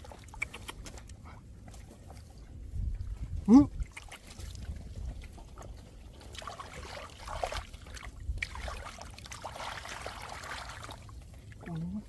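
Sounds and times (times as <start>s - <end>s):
muddy water sloshing: 0.0s - 12.0s.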